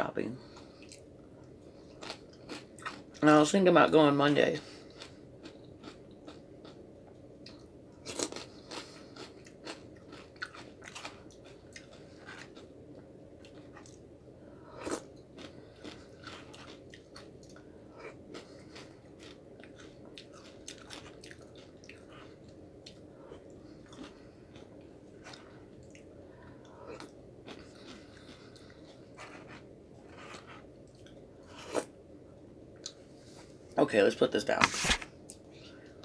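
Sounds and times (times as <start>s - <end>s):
person chewing food: 0.4s - 3.2s, 4.8s - 31.9s.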